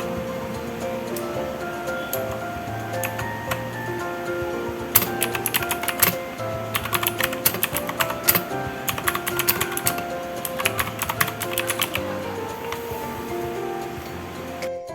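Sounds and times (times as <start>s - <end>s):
background music: 0.0s - 14.9s.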